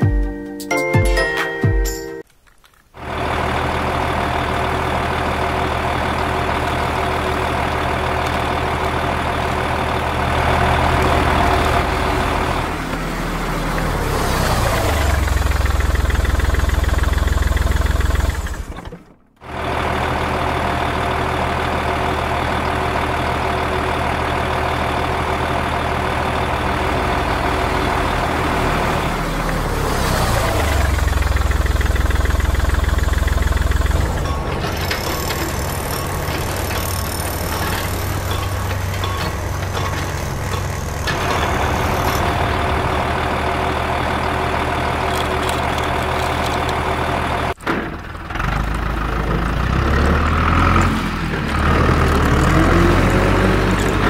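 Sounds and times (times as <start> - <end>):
vehicle engine idling: 3.0 - 54.0.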